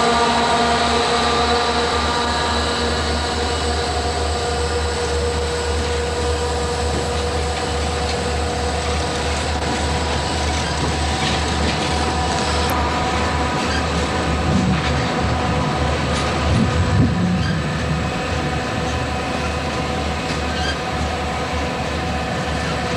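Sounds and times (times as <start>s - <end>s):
brake blower whine: 0.0s - 22.9s
train rumble: 0.0s - 22.9s.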